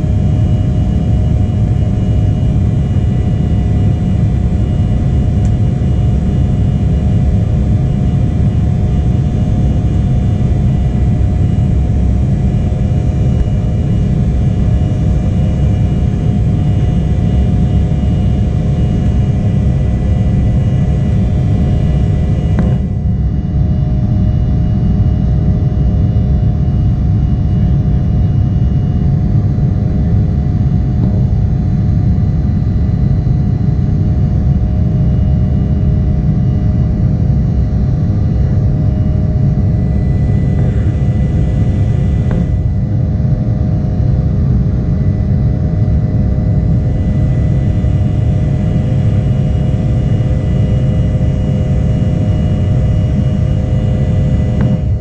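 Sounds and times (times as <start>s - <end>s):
jet cabin rumble: 0.0s - 55.0s
turbofan engines droning: 0.0s - 55.0s.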